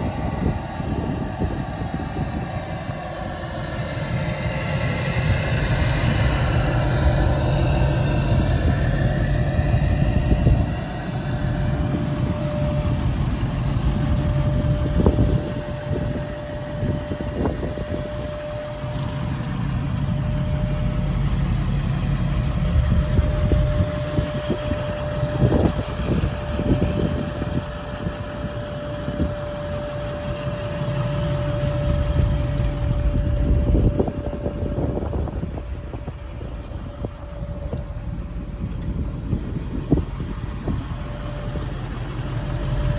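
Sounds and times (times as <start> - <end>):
pickup engine idling: 0.0 - 42.9
thin steady whine: 0.0 - 42.9.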